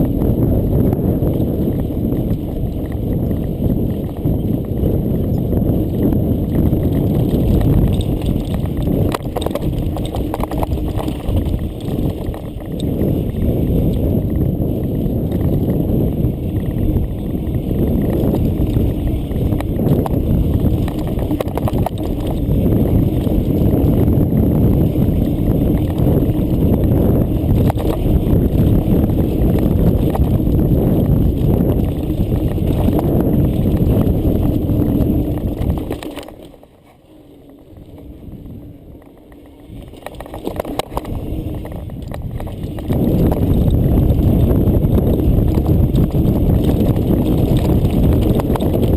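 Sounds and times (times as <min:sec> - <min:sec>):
bike rumbling over cobbles: 0:00.0 - 0:48.9
wheels knocking on rock: 0:00.0 - 0:48.9.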